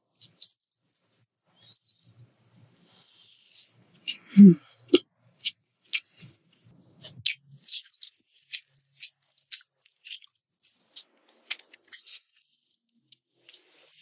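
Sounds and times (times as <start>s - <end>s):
chewing crunchy food: 0.1s - 14.0s.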